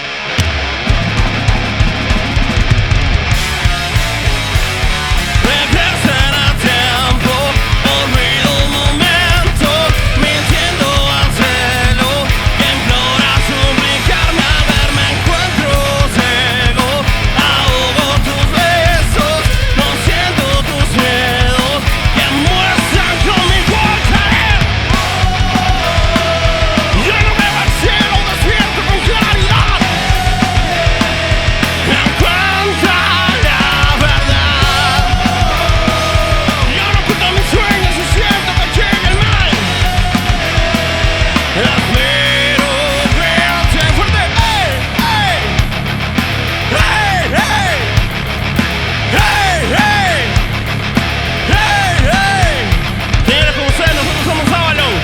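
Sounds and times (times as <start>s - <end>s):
distorted electric guitar: 0.0s - 55.0s
rock band playing live: 0.0s - 55.0s.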